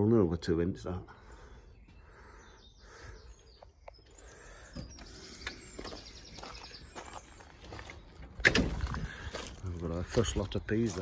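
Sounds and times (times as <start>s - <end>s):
faint birdsong chirps: 0.0s - 11.0s.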